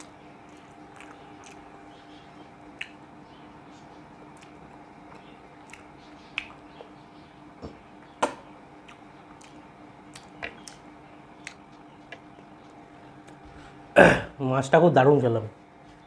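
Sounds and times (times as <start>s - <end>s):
man chewing food: 0.0s - 13.9s
faint steady hum: 0.0s - 16.0s.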